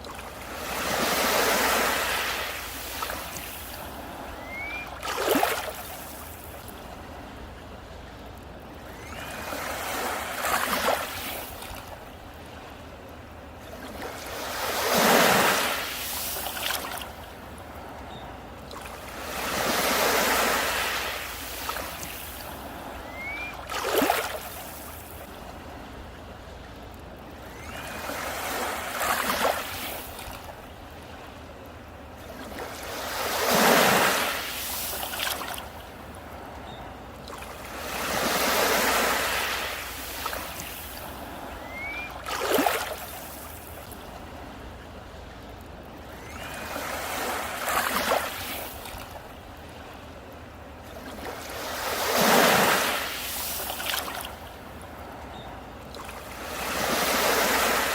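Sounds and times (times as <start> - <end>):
waves breaking on beach: 0.0 - 57.9.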